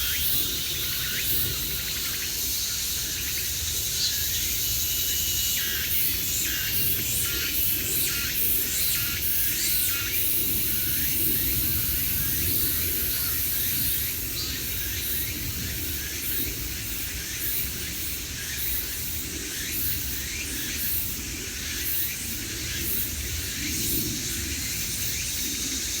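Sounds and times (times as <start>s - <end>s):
crickets chorus: 0.0s - 26.0s.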